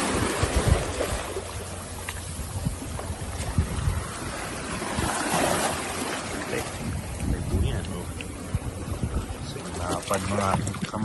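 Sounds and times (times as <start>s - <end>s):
sea water washing: 0.0s - 11.0s
wind buffeting microphone: 0.0s - 11.0s.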